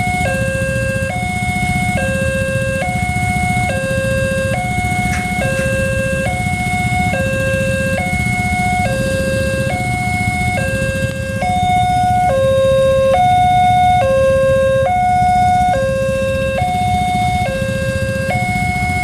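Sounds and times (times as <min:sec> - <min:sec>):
two-tone crossing warning siren: 0:00.0 - 0:19.0.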